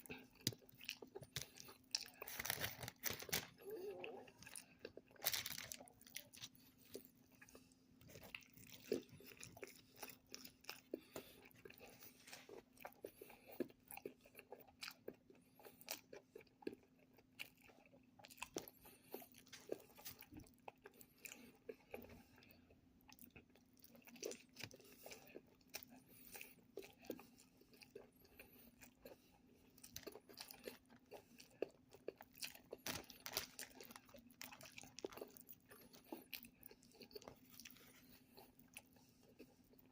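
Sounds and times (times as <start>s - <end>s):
chewing and biting food: 0.0s - 39.9s
faint steady hum: 0.0s - 39.9s.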